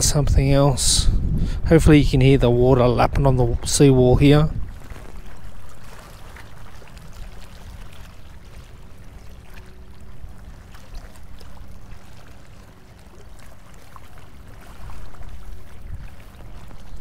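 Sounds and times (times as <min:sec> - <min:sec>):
water lapping against a wall: 0:01.4 - 0:17.0.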